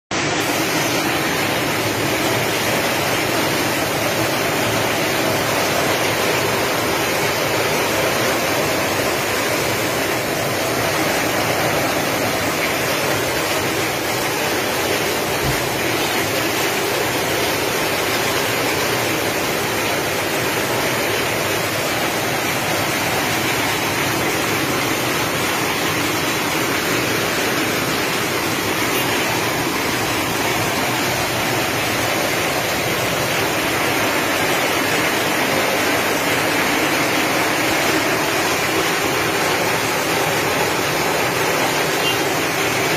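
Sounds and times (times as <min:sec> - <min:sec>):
heavy rain pouring: 0:00.1 - 0:42.9.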